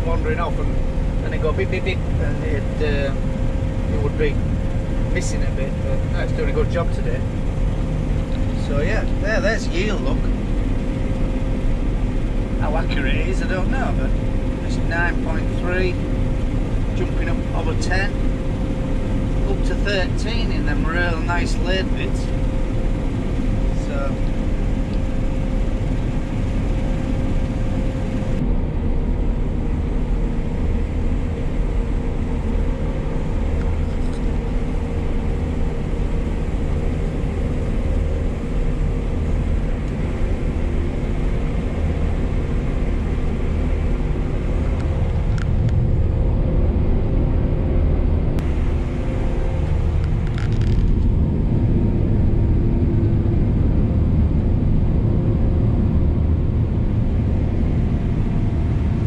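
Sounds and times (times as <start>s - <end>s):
combine harvester engine droning: 0.0s - 59.0s.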